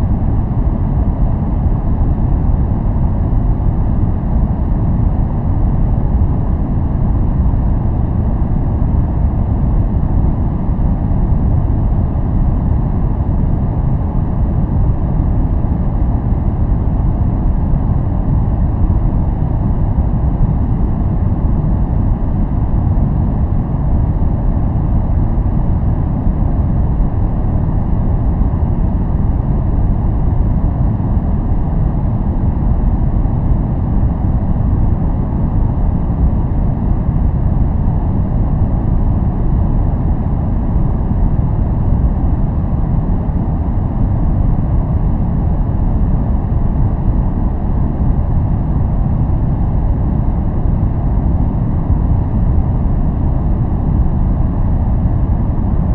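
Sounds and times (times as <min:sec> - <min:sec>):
deep even rumble noise: 0:00.0 - 0:55.9.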